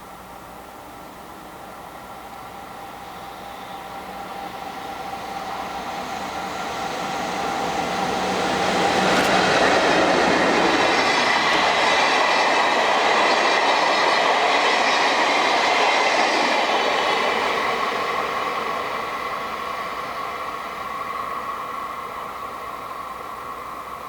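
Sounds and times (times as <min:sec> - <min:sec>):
train passing on rails: 0:00.0 - 0:24.0.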